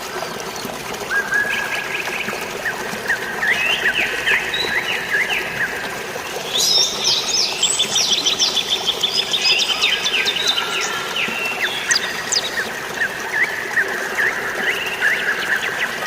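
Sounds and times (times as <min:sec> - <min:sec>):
flowing water: 0:00.0 - 0:16.0
songbirds chirping: 0:00.4 - 0:16.0.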